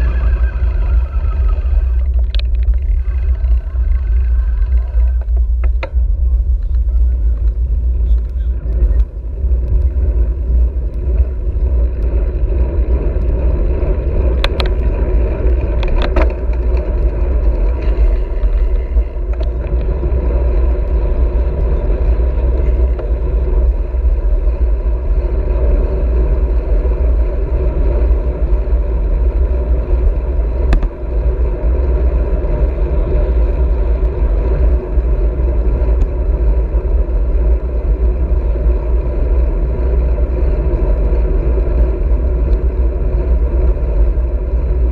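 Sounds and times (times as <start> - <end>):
bicycle tyre noise on road: 0.0 - 44.9
wind rumble on microphone: 0.0 - 44.9.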